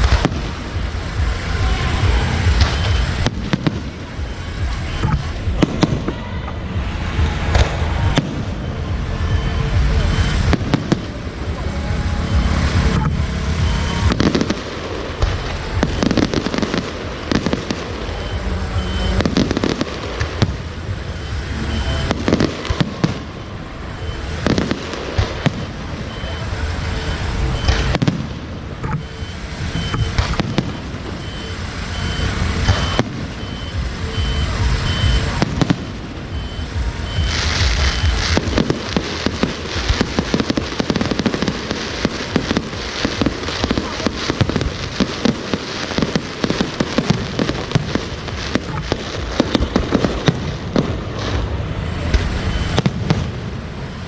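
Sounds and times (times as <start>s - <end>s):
firecrackers crackling: 0.0s - 54.0s
firework bangs: 0.0s - 54.0s.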